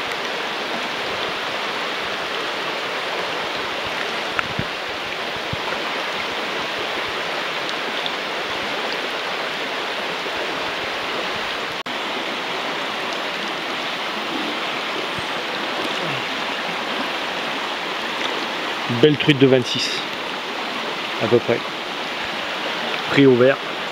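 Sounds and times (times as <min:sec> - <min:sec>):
stream rushing over stones: 0:00.0 - 0:23.9.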